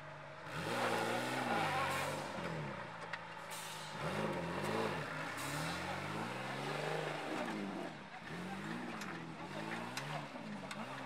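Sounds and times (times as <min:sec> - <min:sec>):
jeep engine revving: 0:00.4 - 0:02.9, 0:03.9 - 0:11.0.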